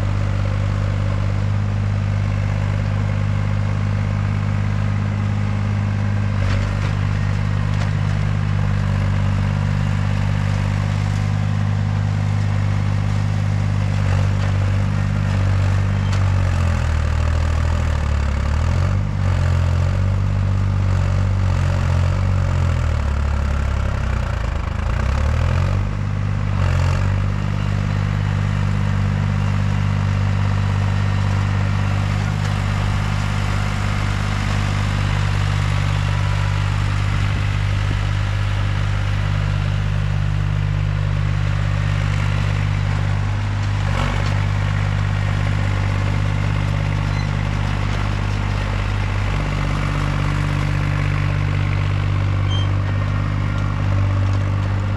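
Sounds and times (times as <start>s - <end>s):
heavy equipment engine running: 0.0s - 54.9s.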